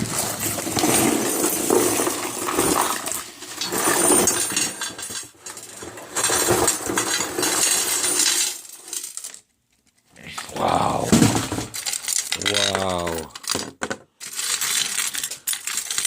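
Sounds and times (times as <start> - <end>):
small metal parts rattling in a box: 0.0 - 10.0, 11.1 - 16.0.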